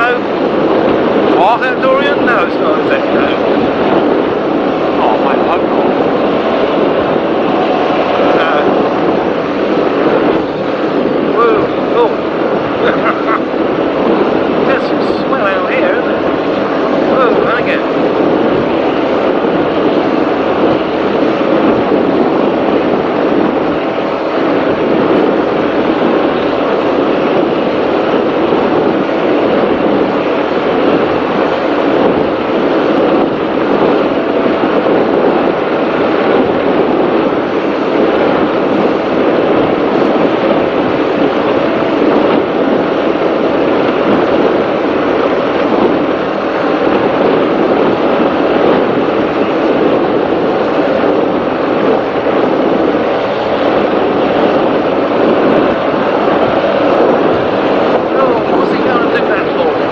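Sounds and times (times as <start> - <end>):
powerboat engine: 0.0 - 59.9
rushing water: 0.0 - 59.9.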